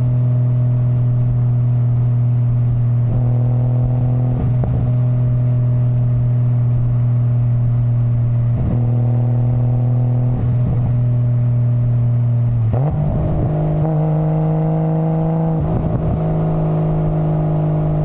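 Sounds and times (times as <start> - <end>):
car engine running steadily: 0.0 - 18.0.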